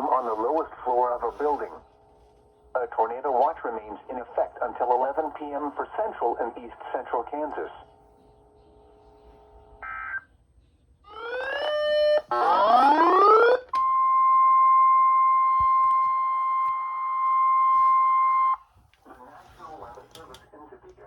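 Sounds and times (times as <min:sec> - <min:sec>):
steady warning alarm tone: 0:00.0 - 0:10.3, 0:11.0 - 0:18.8.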